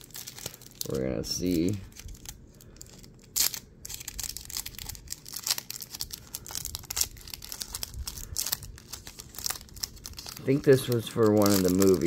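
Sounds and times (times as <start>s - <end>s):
packaging tearing and crinkling: 0.0s - 12.0s.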